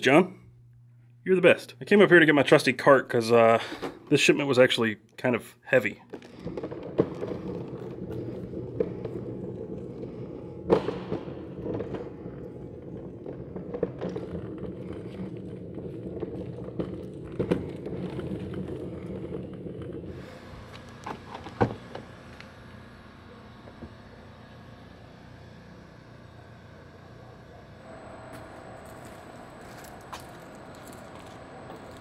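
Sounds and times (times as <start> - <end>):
cart casters rolling on concrete: 6.0 - 32.0.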